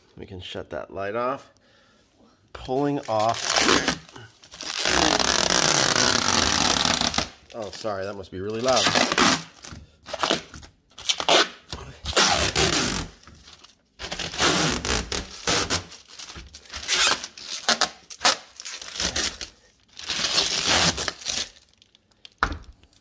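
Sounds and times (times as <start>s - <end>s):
plastic film being peeled off: 3.0s - 22.4s.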